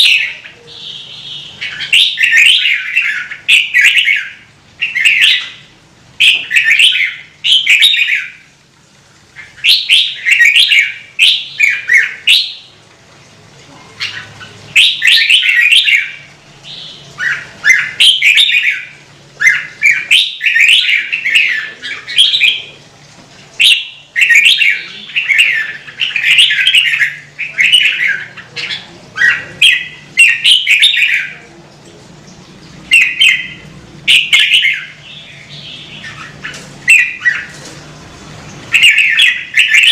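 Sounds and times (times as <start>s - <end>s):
bulbul singing warbled phrases: 0.0s - 8.4s, 9.4s - 12.7s, 13.9s - 22.8s, 23.6s - 31.5s, 32.9s - 37.5s, 38.7s - 39.9s.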